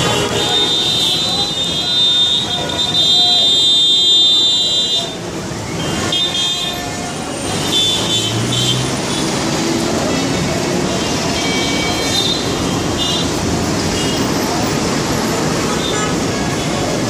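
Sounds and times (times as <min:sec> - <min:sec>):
vehicle horns blaring: 0:00.0 - 0:06.9, 0:07.6 - 0:09.2, 0:09.9 - 0:14.3, 0:15.5 - 0:17.0
traffic engines and tyres rumbling: 0:00.0 - 0:17.0.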